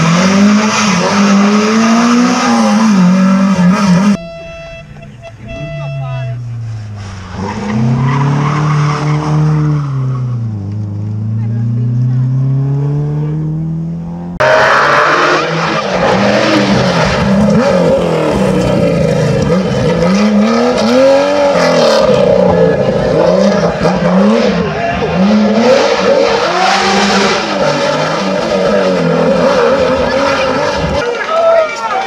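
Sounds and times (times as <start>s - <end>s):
rally car engine revving: 0.0s - 31.2s.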